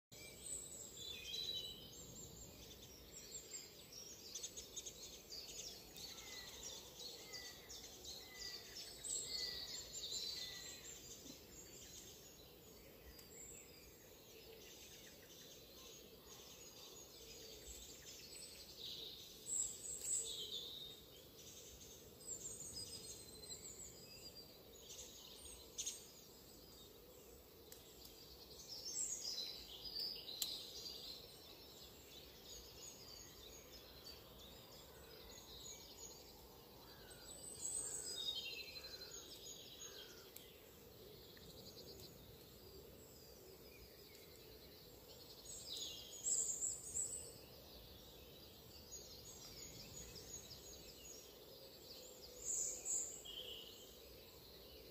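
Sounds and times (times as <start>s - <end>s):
steady background hiss: 0.2s - 54.9s.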